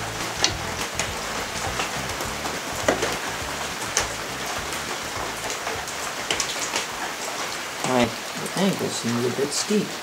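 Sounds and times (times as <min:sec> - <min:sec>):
steady hissing noise: 0:00.0 - 0:10.0.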